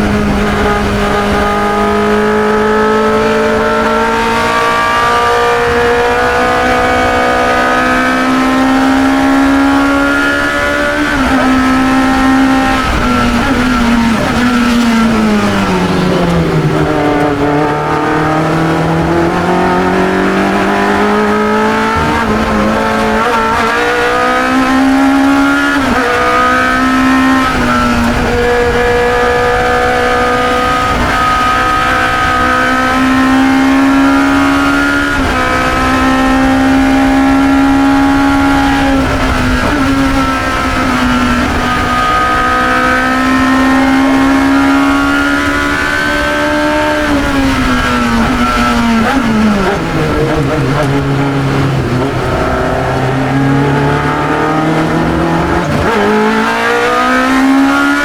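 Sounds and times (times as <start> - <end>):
racing car engine: 0.0 - 58.0.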